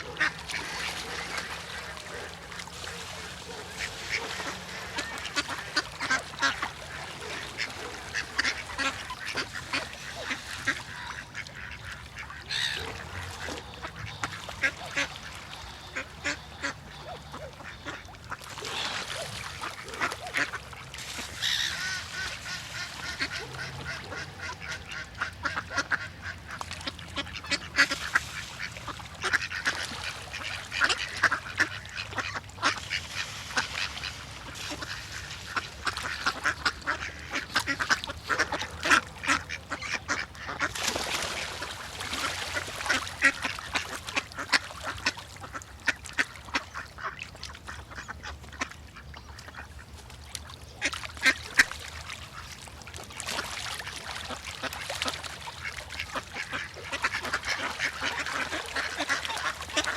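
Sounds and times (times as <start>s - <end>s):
ducks quacking: 0.0s - 50.0s, 50.8s - 52.5s, 53.1s - 59.9s.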